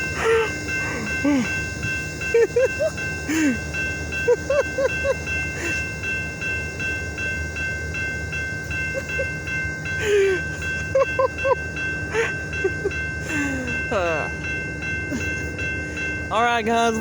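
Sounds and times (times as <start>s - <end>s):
diesel locomotive idling: 0.0s - 17.0s
steady high-pitched tone: 0.0s - 17.0s.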